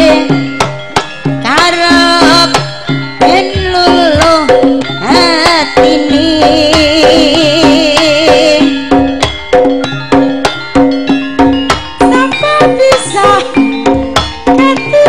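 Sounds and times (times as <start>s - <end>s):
metallophone notes: 0.0s - 15.0s
sliding vibrato melody: 0.0s - 15.0s.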